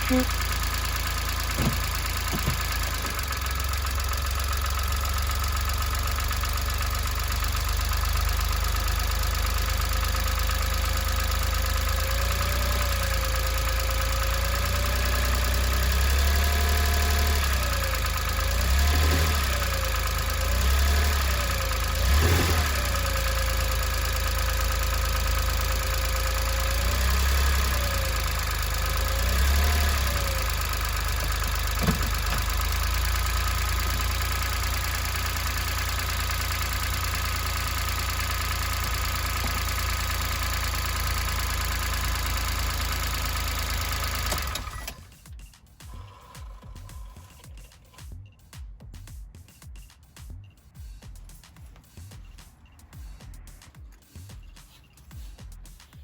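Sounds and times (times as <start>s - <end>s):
car engine idling: 0.0s - 45.3s, 45.9s - 47.9s.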